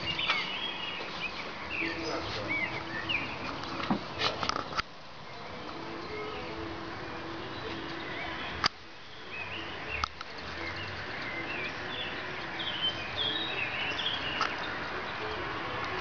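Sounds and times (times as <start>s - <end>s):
birds chirping: 0.0s - 16.0s
steady background hiss: 0.0s - 16.0s.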